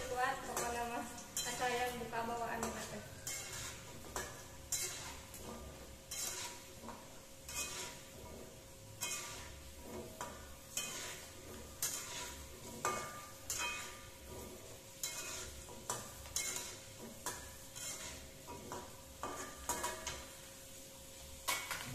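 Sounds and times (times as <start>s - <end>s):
metal spatula scraping pan: 0.0s - 20.5s
oil sizzling: 0.0s - 21.9s.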